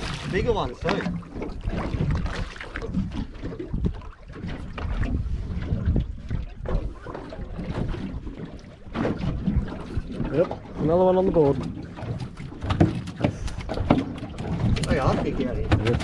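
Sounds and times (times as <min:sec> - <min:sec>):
water lapping against hull: 0:00.0 - 0:16.0
wind buffeting microphone: 0:00.0 - 0:16.0.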